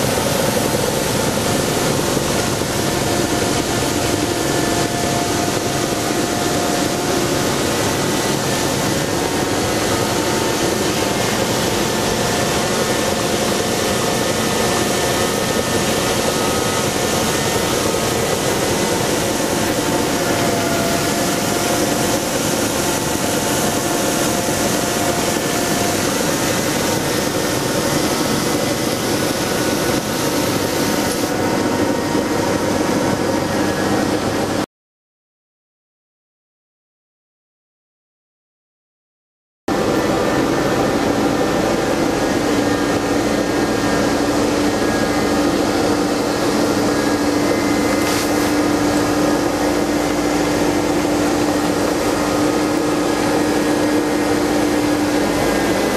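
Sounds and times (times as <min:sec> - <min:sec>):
ice edger machine whining: 0:00.0 - 0:34.6, 0:39.7 - 0:55.9.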